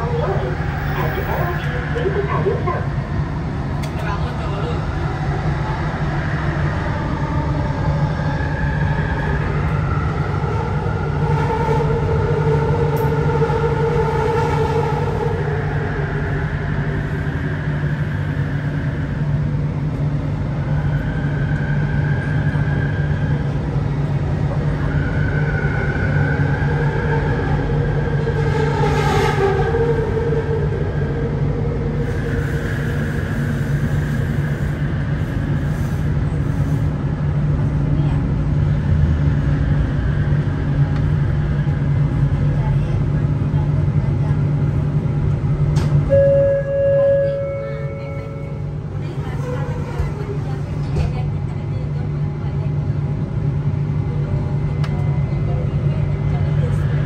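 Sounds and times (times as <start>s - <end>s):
metro train rumble: 0.0s - 57.0s.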